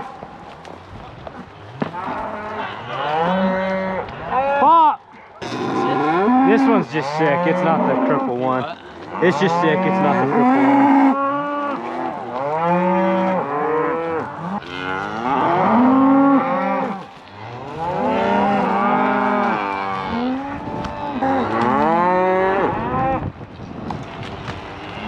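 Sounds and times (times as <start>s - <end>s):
cattle mooing and bawling: 1.8s - 23.3s, 24.0s - 25.0s.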